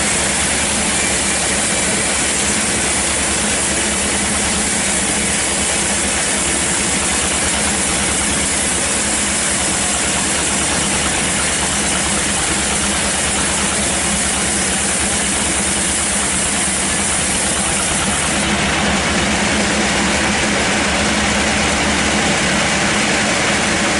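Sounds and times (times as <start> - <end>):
band saw running: 0.0 - 23.9.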